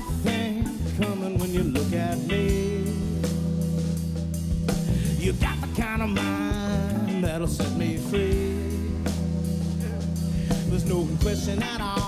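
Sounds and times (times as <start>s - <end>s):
funk band playing live: 0.0s - 12.0s.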